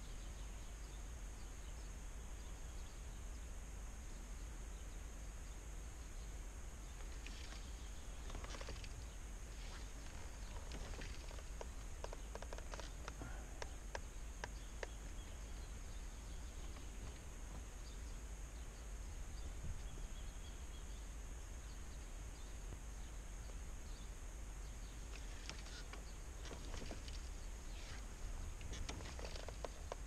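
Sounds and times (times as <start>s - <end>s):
low rumble and hiss: 0.0s - 30.0s.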